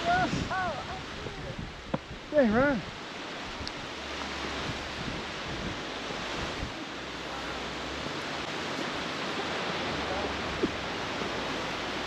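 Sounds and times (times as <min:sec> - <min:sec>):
surf breaking on beach: 0:00.0 - 0:12.0
wind rumbling on microphone: 0:00.0 - 0:12.0.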